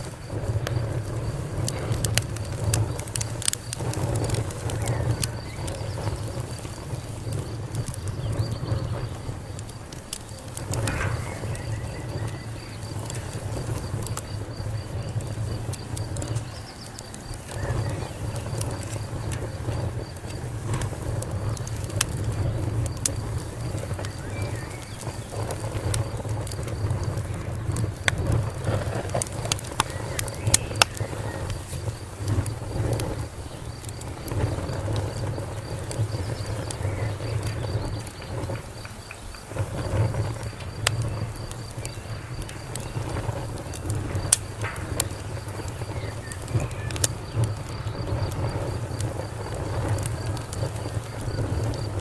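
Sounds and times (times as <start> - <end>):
fire popping: 0.0 - 52.0
rumble of flames: 0.0 - 52.0
wood fire crackling: 0.0 - 52.0.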